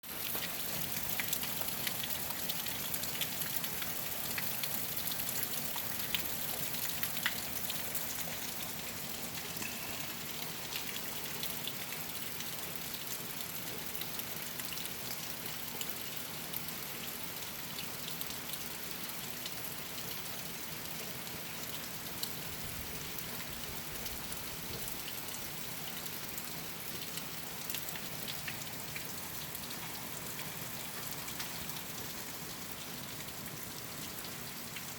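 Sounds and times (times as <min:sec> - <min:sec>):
raindrops ticking on a surface: 0:00.0 - 0:34.9.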